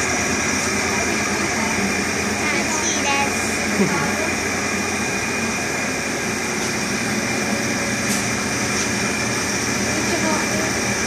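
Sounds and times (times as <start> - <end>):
potter's wheels humming: 0.0 - 11.0.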